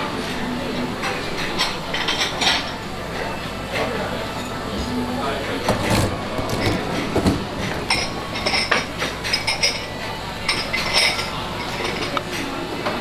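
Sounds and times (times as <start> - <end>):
restaurant background noise: 0.0 - 13.0
tableware clinking: 1.0 - 13.0.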